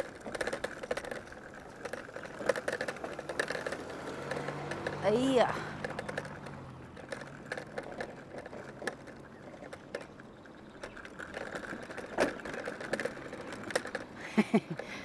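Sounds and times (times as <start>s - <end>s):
electric moped whine: 0.0s - 14.8s
light clicks and rattles: 0.0s - 15.0s.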